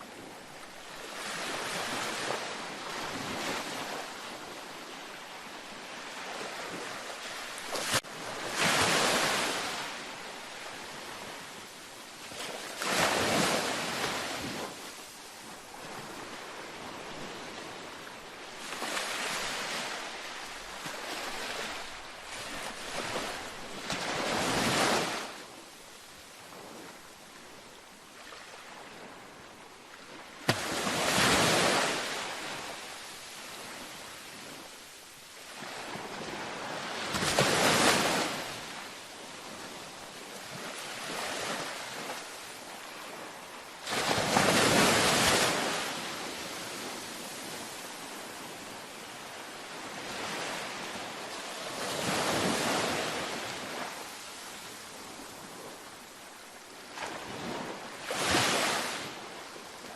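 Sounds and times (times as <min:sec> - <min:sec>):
ocean waves washing onto beach: 0:00.0 - 0:59.9.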